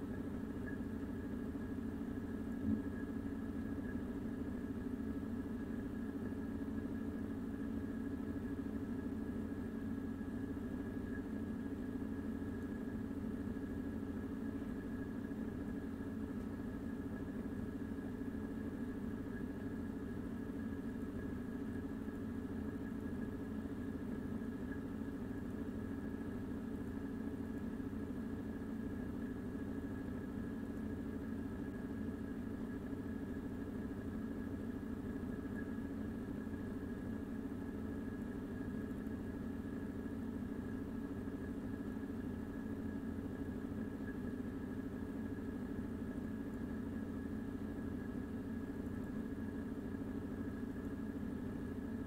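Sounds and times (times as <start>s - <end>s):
faint high whine: 0.0s - 52.0s
steady background hum: 0.0s - 52.0s.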